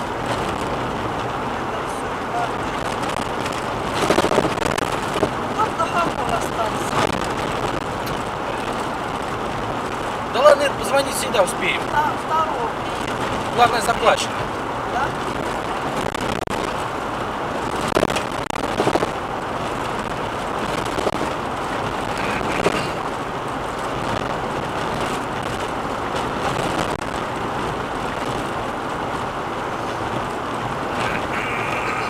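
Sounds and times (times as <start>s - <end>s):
car jolting over bumps: 0.0s - 31.6s
tyre and road rumble: 0.0s - 32.0s.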